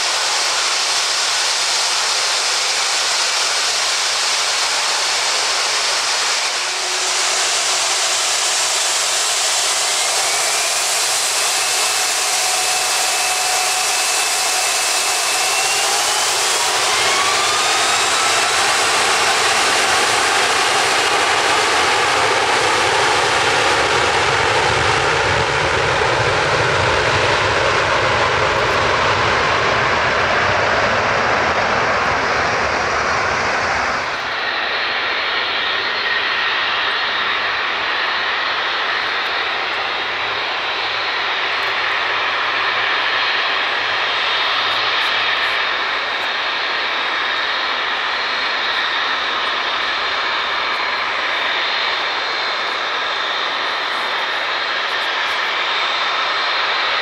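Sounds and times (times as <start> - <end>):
jet engines roaring: 0.0 - 57.0
jet whine with high tones: 0.0 - 57.0.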